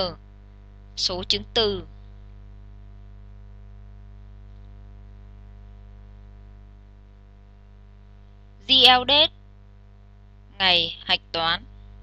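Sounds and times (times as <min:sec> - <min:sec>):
electrical mains hum: 0:00.0 - 0:12.0
faint recording hiss: 0:00.0 - 0:12.0.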